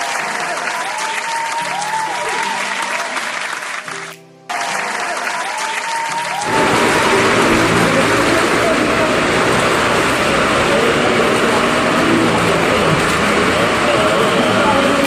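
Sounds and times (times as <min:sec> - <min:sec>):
applause: 0:00.0 - 0:15.0
background music: 0:00.0 - 0:15.0.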